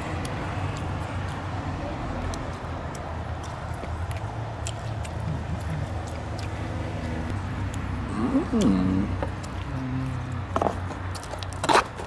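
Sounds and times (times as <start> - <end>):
chewing clicks: 0.0 - 12.0
distant traffic rumble: 0.0 - 12.0.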